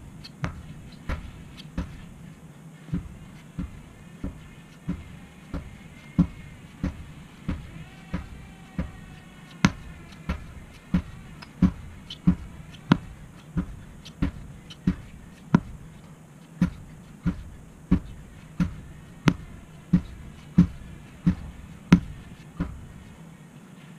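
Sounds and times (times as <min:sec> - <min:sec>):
sledgehammer thudding on tire: 0:00.0 - 0:02.3, 0:02.9 - 0:23.2.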